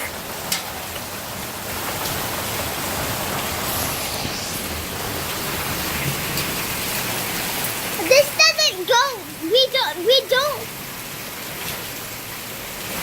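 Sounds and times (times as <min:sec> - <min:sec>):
rain pouring: 0:00.0 - 0:13.0.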